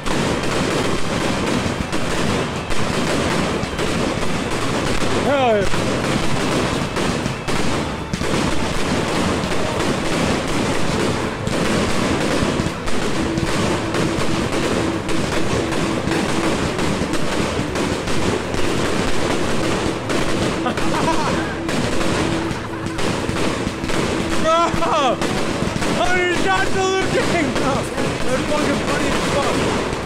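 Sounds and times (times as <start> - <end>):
fireworks barrage bangs: 0.0 - 30.0.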